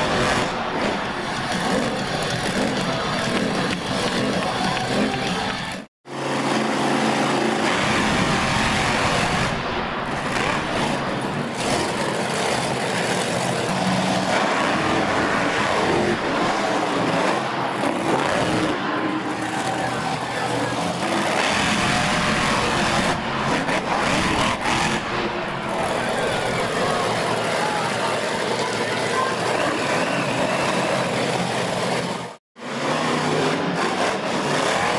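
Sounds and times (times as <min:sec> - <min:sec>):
monster truck engines running: 0:00.0 - 0:34.9.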